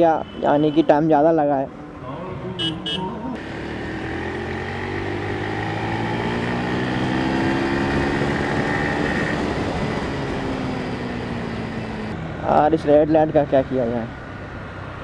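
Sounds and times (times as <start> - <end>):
road noise: 0.0 - 15.0
vehicle engine droning: 2.1 - 15.0.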